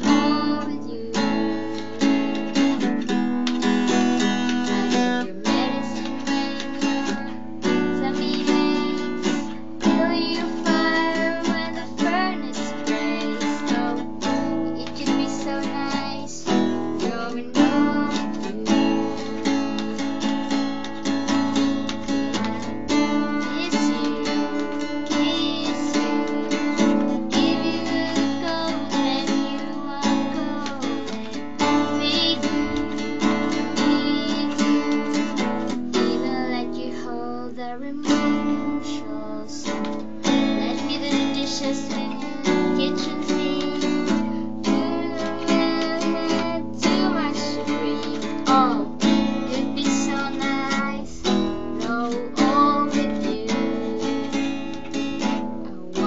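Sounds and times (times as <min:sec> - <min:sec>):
acoustic guitar strumming chords: 0:00.0 - 0:56.0
young woman singing: 0:00.0 - 0:56.0.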